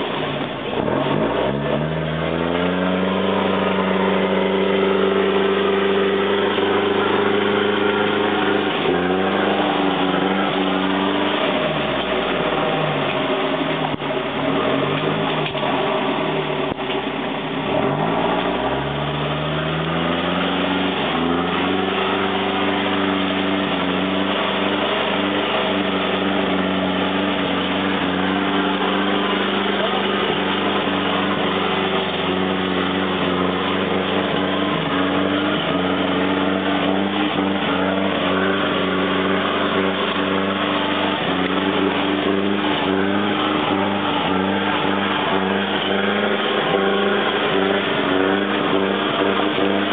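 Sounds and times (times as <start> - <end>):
constant rushing noise: 0.0 - 49.9
pickup truck engine driving: 0.0 - 49.9.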